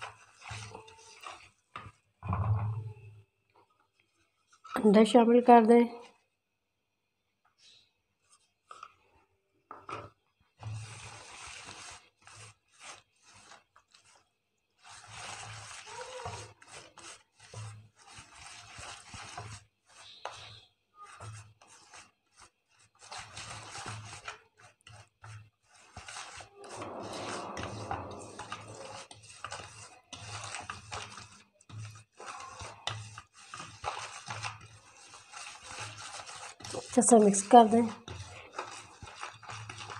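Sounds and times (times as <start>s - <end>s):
hand mixing batter in metal bowl: 0.0s - 39.9s.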